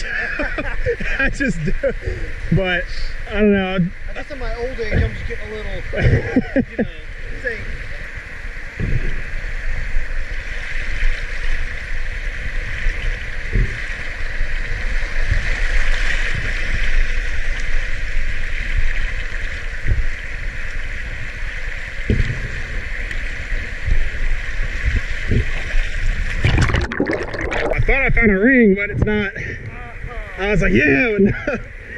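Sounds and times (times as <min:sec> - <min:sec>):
waves slapping against camera: 0:00.0 - 0:31.9.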